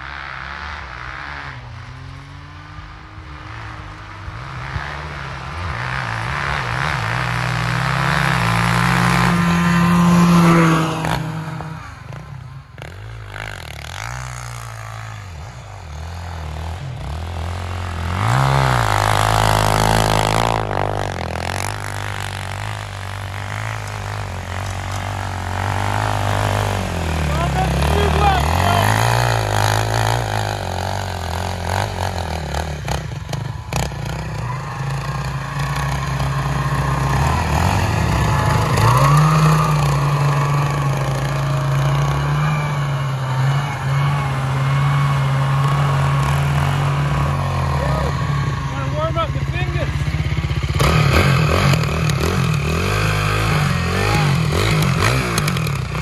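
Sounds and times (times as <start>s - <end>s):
racing engines at full throttle: 0.0s - 56.0s
quad engine revving: 3.4s - 56.0s.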